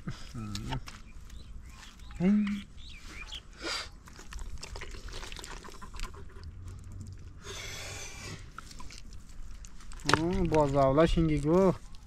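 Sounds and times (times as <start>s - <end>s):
hands squelching in wet mud: 0.0s - 12.0s.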